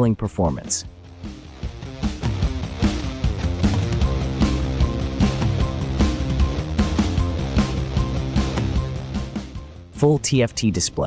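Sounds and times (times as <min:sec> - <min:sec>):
background music with steady beat: 0:00.5 - 0:11.0.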